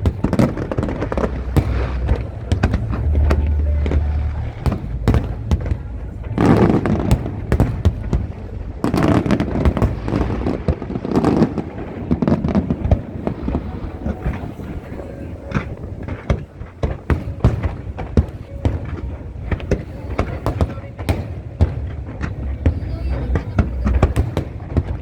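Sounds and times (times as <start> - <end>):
deep low rumble: 0.0 - 25.0
fireworks bangs and crackles: 0.0 - 25.0.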